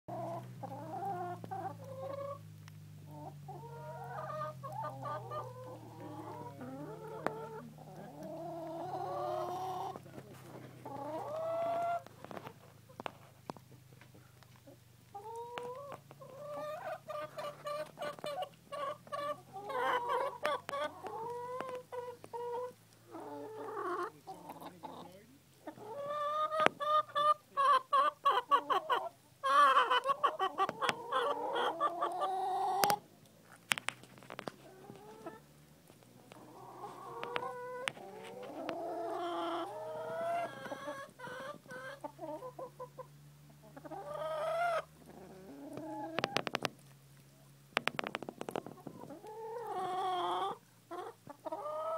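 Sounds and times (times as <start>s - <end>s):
chickens clucking: 0.1s - 51.9s.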